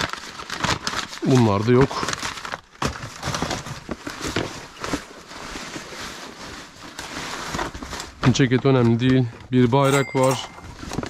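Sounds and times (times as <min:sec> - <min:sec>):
clothing and gift bags rustling: 0:00.0 - 0:11.0.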